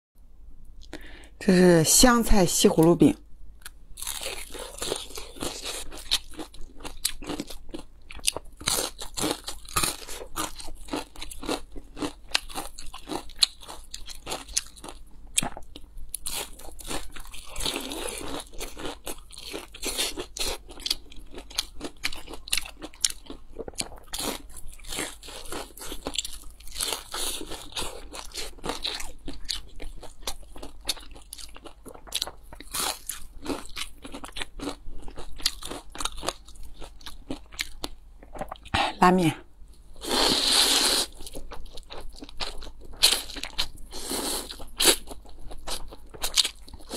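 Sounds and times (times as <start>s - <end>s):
crunchy chewing: 3.6s - 38.7s, 40.0s - 46.9s.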